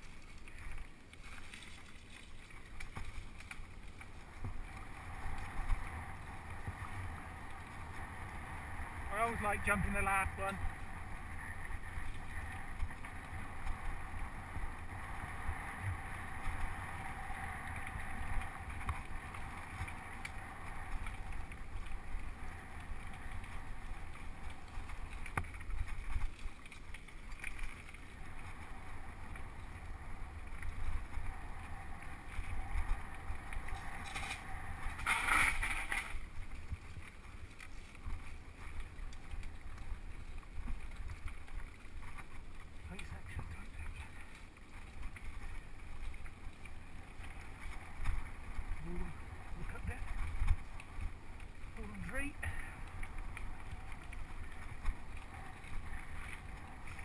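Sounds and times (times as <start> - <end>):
bike rattling: 0.0 - 57.0
bike tyres rumbling on dirt: 2.6 - 57.0.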